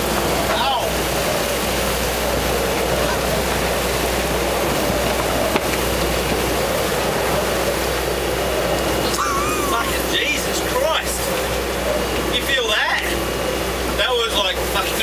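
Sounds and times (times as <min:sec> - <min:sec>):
strong wind: 0:00.0 - 0:14.0
rough sea: 0:00.0 - 0:15.0.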